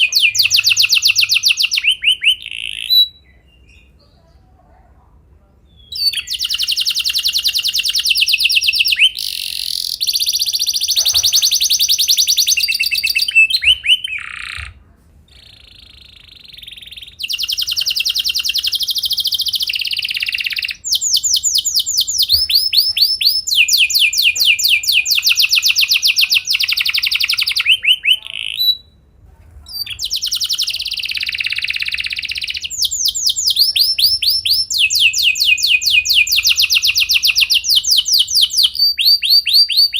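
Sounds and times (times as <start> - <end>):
canary singing trills: 0.0 - 4.5, 5.6 - 29.0, 29.6 - 39.9.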